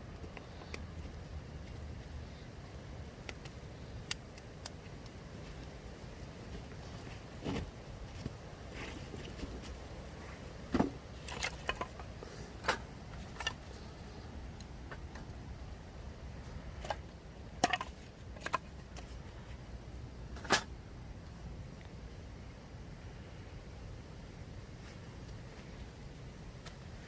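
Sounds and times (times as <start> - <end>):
faint steady background noise: 0.0 - 27.0.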